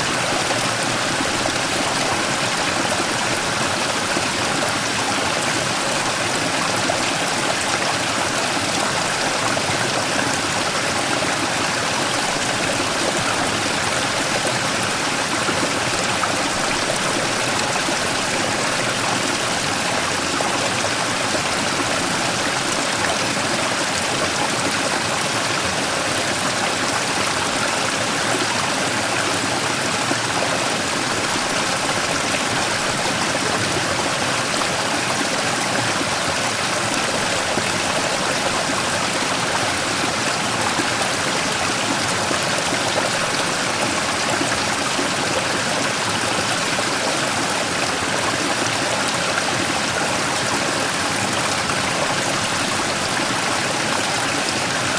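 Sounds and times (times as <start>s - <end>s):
stream rushing over rock: 0.0s - 54.9s.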